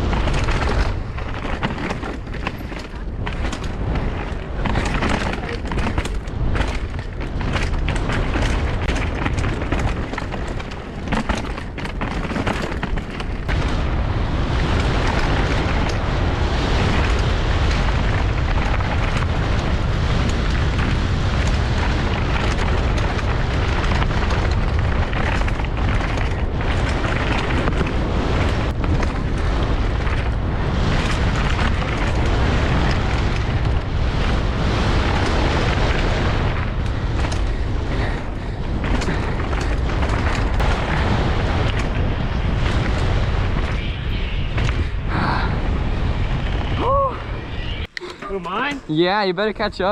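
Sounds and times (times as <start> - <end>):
bike rattles and knocks: 0.0 - 45.1, 47.7 - 49.9
wind buffeting microphone: 0.0 - 49.9.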